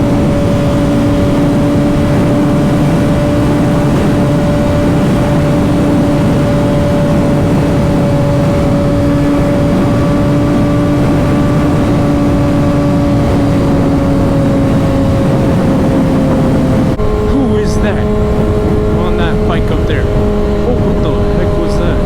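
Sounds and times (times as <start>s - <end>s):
motorcycle engine cruising: 0.0s - 22.0s
wind noise rushing: 0.0s - 22.0s.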